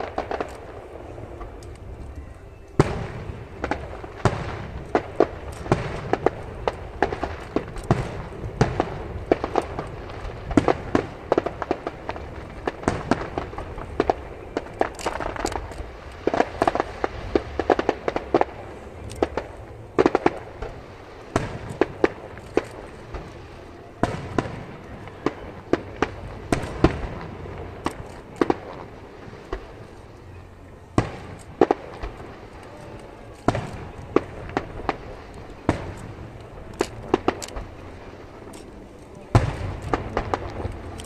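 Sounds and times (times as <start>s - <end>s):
crackling pops: 0.0s - 41.0s
fireworks bursting with bangs: 0.0s - 41.0s.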